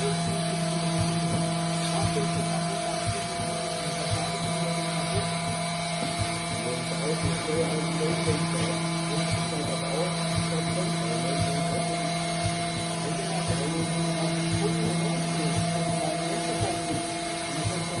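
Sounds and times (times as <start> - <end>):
machining centre hum and whine: 0.0 - 18.0.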